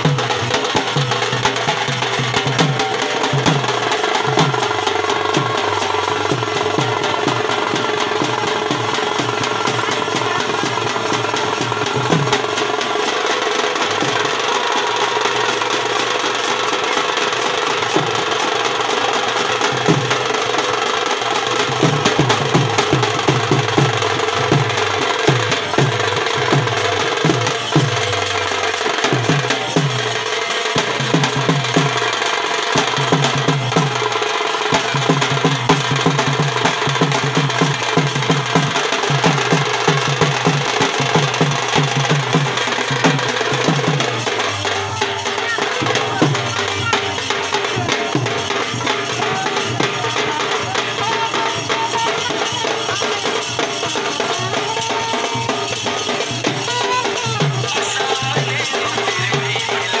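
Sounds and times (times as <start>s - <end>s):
drum quick beat: 0.0s - 60.0s
folk dance music: 0.0s - 60.0s.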